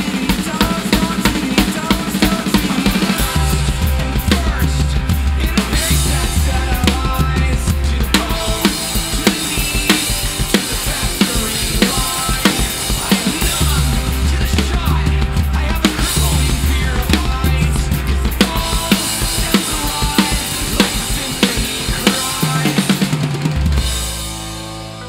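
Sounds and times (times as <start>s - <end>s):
pop-punk backing track: 0.0s - 25.0s
rock drum kit played hard: 0.0s - 25.0s.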